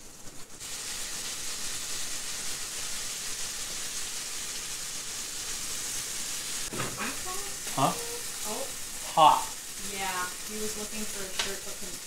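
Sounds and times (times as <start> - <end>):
steak sizzling in a skillet: 0.0 - 12.0.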